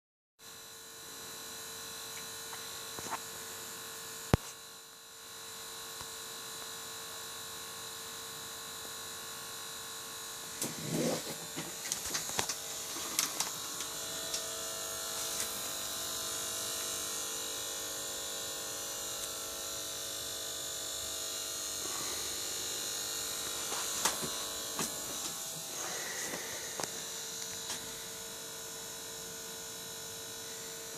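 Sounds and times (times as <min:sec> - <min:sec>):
cooler pump buzzing whine: 0:00.4 - 0:30.9.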